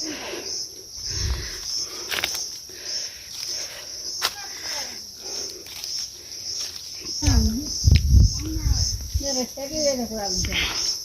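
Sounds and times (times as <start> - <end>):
insects chirping pulsing buzz: 0.0 - 11.0.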